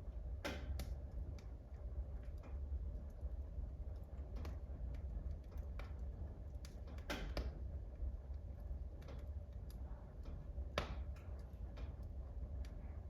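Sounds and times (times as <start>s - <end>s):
low steady rumble: 0.0s - 13.0s
wood fire crackling: 0.1s - 13.0s.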